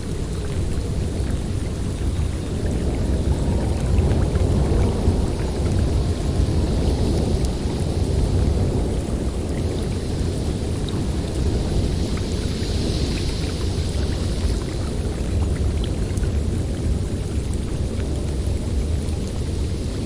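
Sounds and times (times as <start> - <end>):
snowstorm wind blowing: 0.0 - 20.0.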